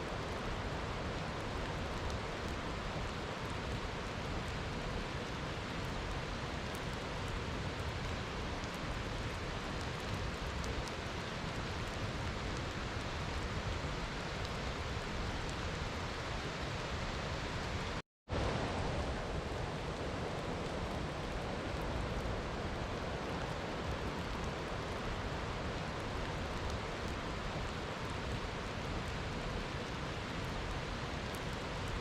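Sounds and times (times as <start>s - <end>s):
steady rain hiss: 0.0s - 32.0s
raindrop ticks: 0.1s - 15.9s, 19.9s - 32.0s.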